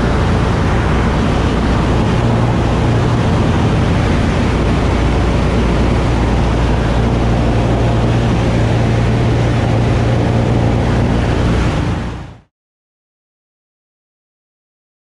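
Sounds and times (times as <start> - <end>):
radial engines and propellers droning: 0.0 - 12.5
rushing airflow: 0.0 - 12.5.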